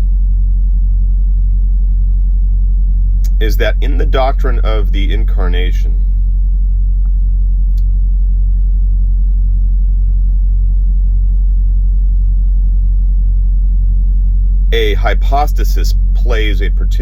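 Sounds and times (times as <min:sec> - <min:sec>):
loud low hum: 0:00.0 - 0:17.0.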